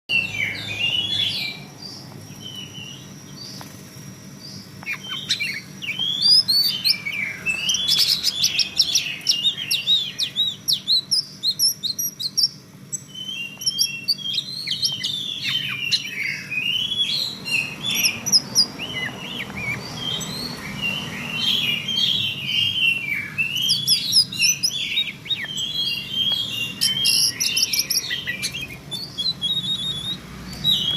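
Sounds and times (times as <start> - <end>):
bird chirping and whistling: 0.1 - 3.6, 4.4 - 30.9.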